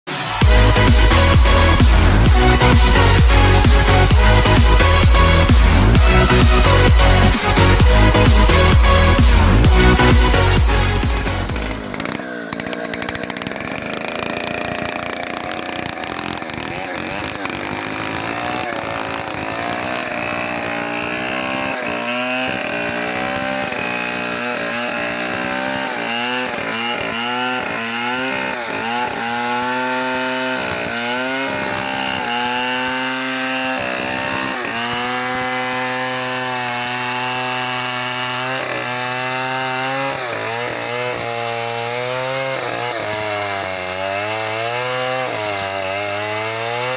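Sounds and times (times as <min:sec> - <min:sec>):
chainsaw cutting log: 0:00.1 - 0:46.9.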